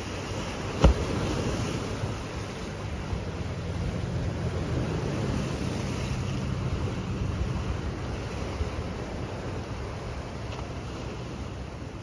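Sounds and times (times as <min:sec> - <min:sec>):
small waves washing over rocks: 0:00.0 - 0:12.0.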